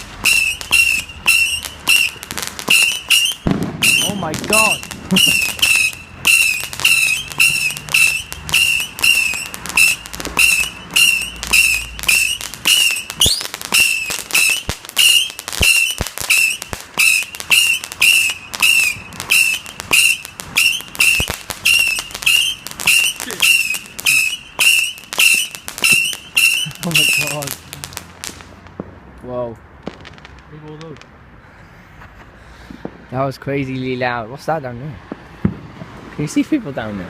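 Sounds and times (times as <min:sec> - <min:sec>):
whistling firework shots crackling: 0:00.0 - 0:28.9, 0:29.8 - 0:31.1.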